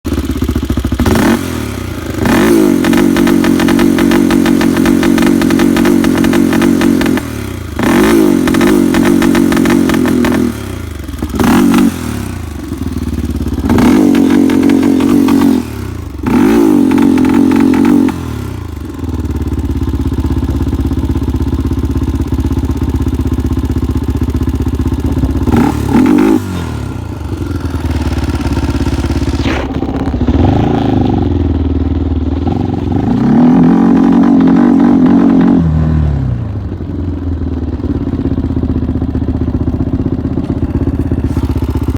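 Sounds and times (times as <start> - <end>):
atv engine revving and idling: 0.0 - 41.9.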